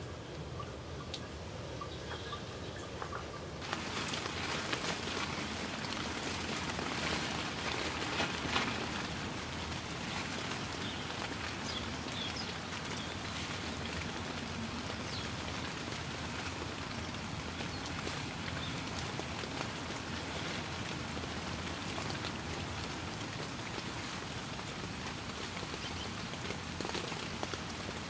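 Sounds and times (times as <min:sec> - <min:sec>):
plastic tarp rustling: 0:03.6 - 0:28.0
rain falling: 0:03.6 - 0:28.0.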